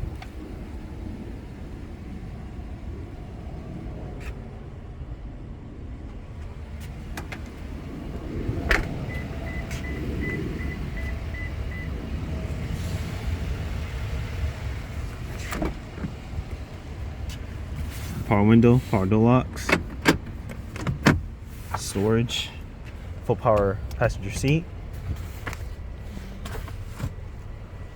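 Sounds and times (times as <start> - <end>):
truck engine idling: 0.0 - 27.9.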